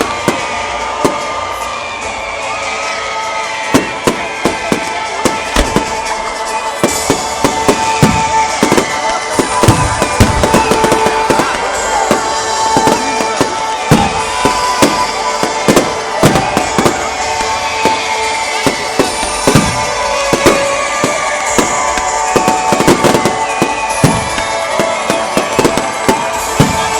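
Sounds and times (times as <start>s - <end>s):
fireworks bangs and crackles: 0.0s - 26.9s
music playing: 0.0s - 26.9s.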